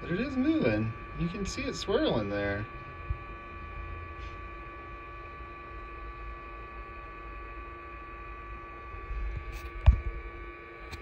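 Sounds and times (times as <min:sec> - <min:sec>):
electric pump humming in water: 0:00.0 - 0:11.0.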